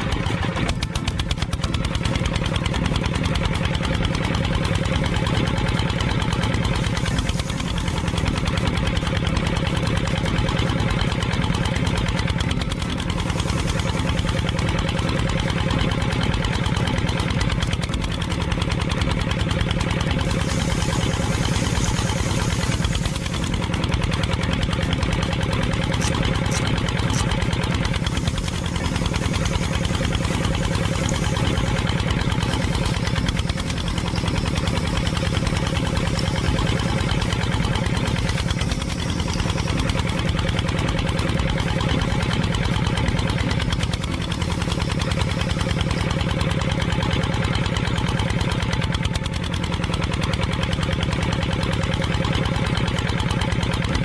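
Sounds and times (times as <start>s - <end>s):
engine idling with chugging beat: 0.0s - 54.0s.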